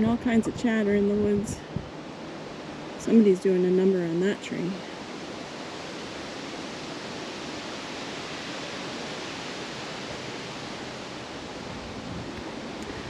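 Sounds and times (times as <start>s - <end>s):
distant highway traffic hiss: 0.0s - 13.0s.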